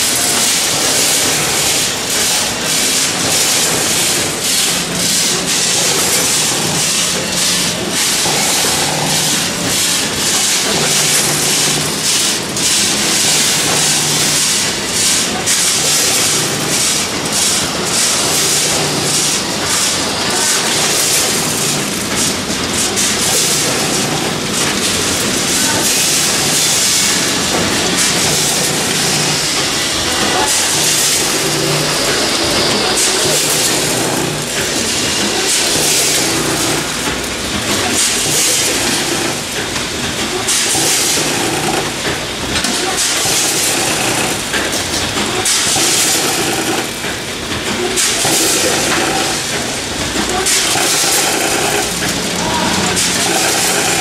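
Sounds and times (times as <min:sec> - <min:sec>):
machine hum: 0:00.0 - 0:54.0.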